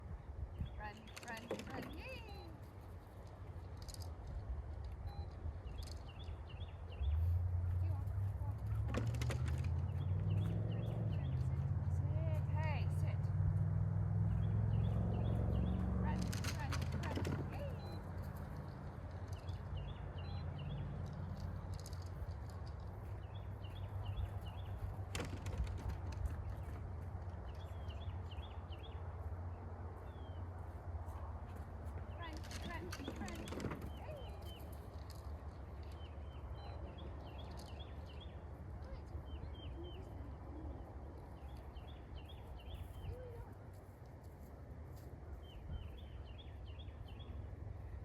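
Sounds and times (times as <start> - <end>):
small birds chirping: 0.5 - 13.2, 14.2 - 30.8, 32.0 - 44.4, 45.3 - 48.0.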